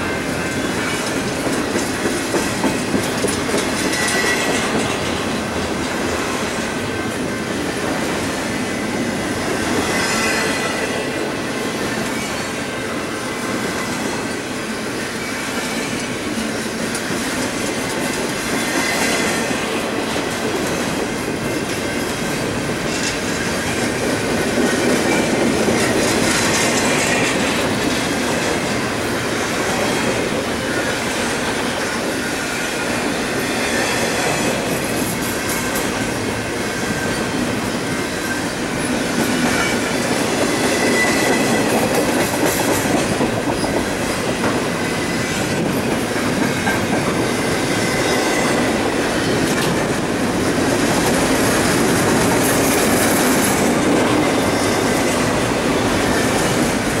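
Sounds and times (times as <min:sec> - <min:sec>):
train clanks: 0:00.0 - 0:57.0
train wheels rumbling on rails: 0:00.0 - 0:57.0.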